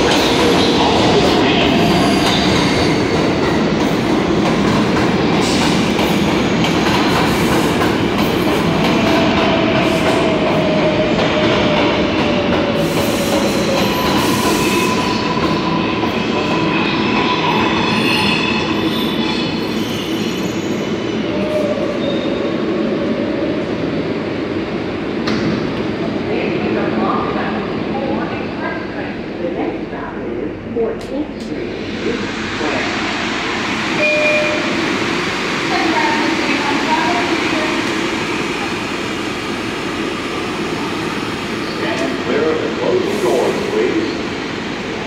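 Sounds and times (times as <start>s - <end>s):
subway train rumbling: 0.0s - 45.0s.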